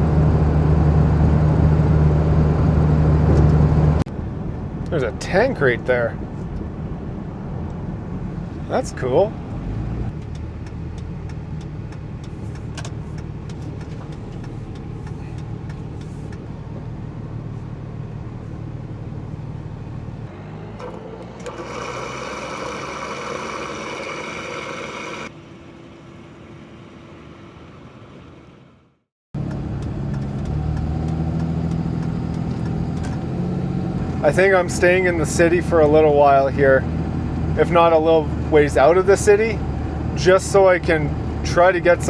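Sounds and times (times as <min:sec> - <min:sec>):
truck engine and road noise: 0:00.0 - 0:42.0.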